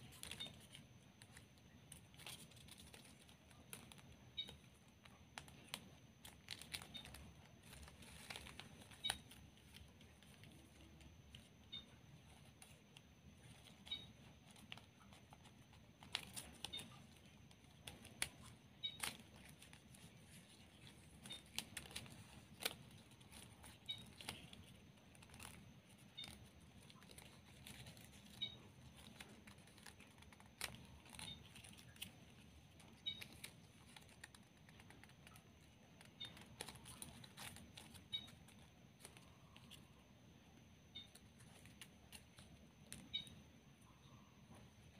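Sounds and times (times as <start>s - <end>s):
plastic ribbon crinkling: 0.0s - 40.0s
low background hum: 0.0s - 44.9s.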